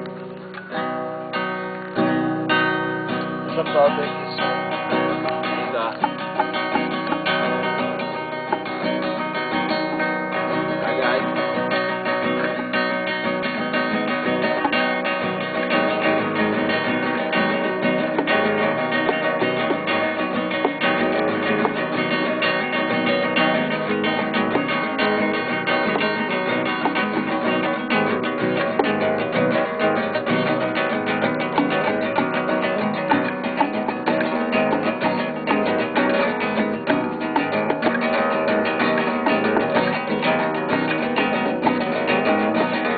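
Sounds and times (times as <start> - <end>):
acoustic guitar plucked: 0.0 - 42.9.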